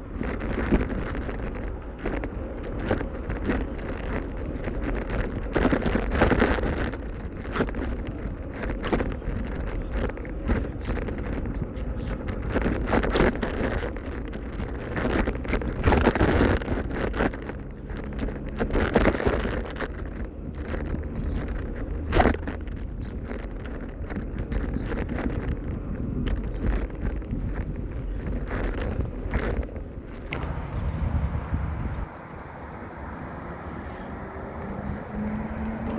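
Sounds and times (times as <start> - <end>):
road noise: 0.0 - 35.9
wind buffeting microphone: 0.0 - 35.9.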